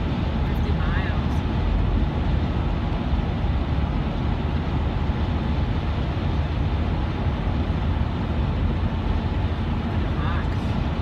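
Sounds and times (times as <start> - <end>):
car driving on highway: 0.0 - 11.0.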